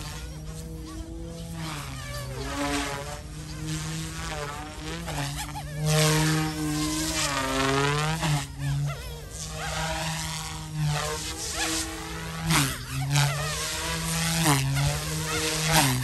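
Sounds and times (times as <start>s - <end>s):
rc helicopter rotors buzzing: 0.0s - 16.0s.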